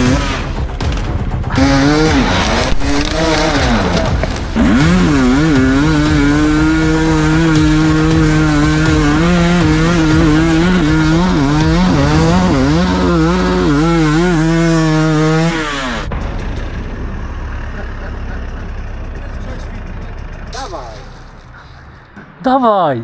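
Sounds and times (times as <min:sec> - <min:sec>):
dirt bike engine revving high: 0:00.0 - 0:00.7, 0:01.5 - 0:21.5.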